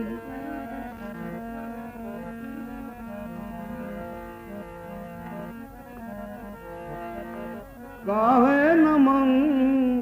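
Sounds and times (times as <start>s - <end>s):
harmonium melody: 0.0s - 10.0s.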